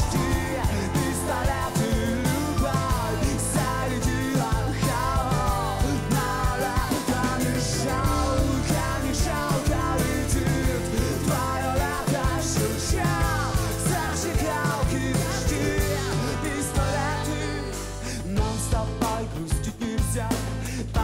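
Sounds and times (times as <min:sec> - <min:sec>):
acoustic rock band playing: 0:00.0 - 0:21.0.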